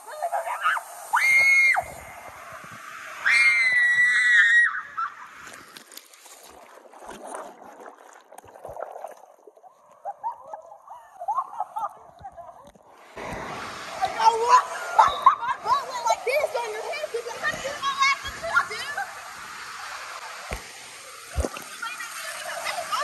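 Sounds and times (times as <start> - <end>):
water rushing and gurgling: 0.0 - 23.0.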